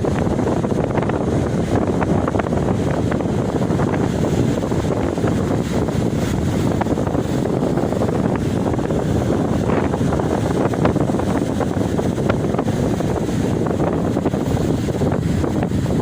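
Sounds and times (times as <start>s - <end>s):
ocean surf washing on beach: 0.0s - 16.0s
wind buffeting microphone: 0.0s - 16.0s.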